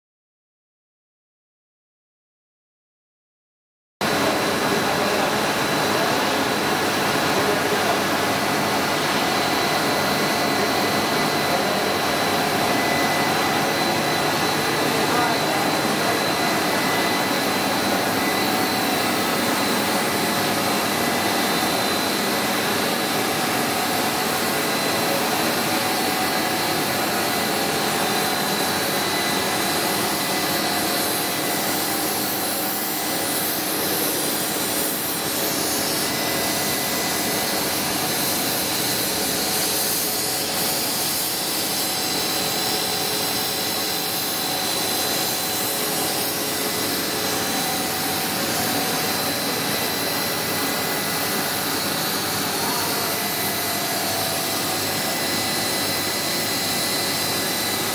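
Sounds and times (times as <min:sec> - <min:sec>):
machine whirring: 0:04.0 - 0:57.9
high constant whine: 0:04.1 - 0:57.6.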